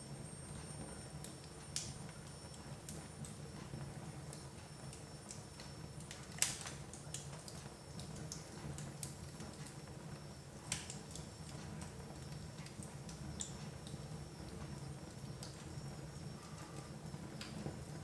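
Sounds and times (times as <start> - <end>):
wood fire crackling: 1.1 - 18.0.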